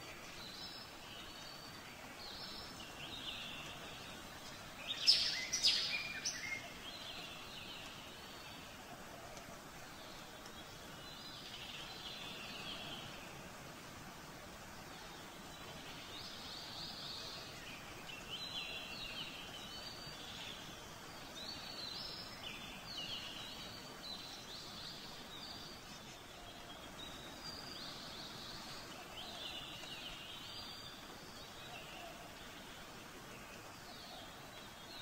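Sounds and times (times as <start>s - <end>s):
birds chirping: 0.0s - 13.8s, 14.6s - 35.0s
steady background hiss: 0.0s - 35.0s.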